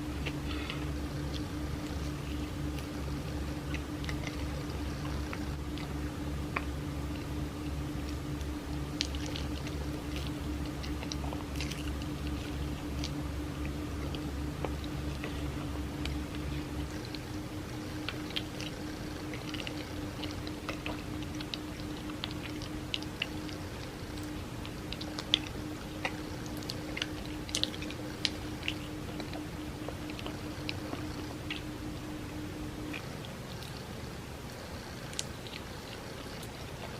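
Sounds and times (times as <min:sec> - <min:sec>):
mouth clicks and smacks: 0:00.0 - 0:32.0
chewing cake: 0:00.0 - 0:36.9
low pulsing hum: 0:00.0 - 0:36.9
steady electrical hum: 0:00.0 - 0:36.9.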